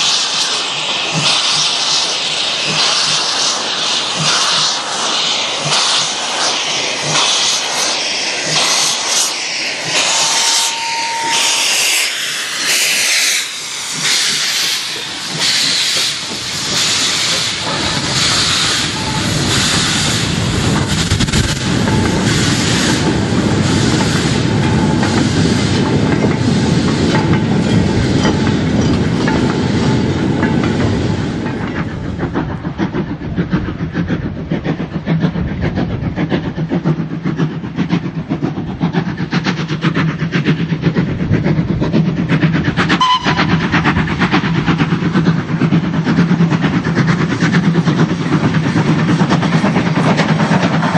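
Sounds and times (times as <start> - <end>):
steam locomotive chuffing: 0.0 - 50.9
train rolling past: 0.0 - 50.9.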